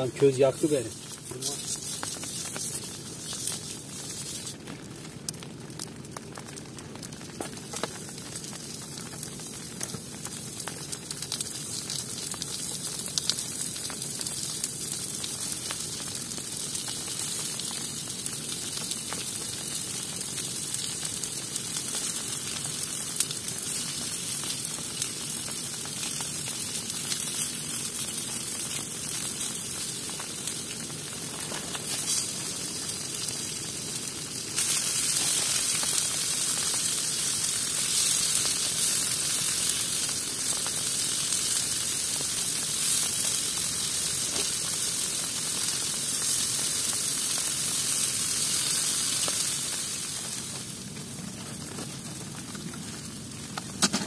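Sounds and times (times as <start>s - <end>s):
food sizzling on fire: 0.0s - 54.0s.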